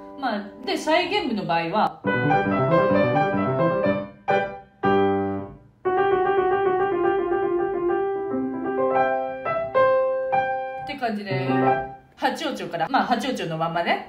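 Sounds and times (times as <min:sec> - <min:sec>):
grand piano playing: 0:00.0 - 0:12.2.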